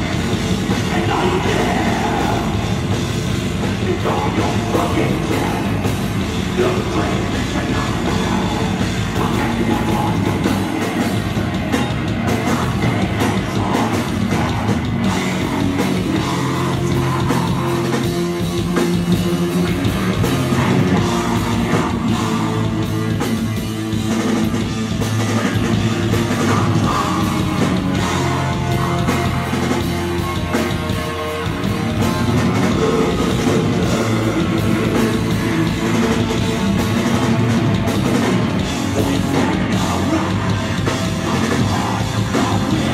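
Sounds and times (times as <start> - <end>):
distorted electric guitars: 0.0 - 42.9
drum kit: 0.0 - 42.9
heavy metal band playing: 0.0 - 42.9.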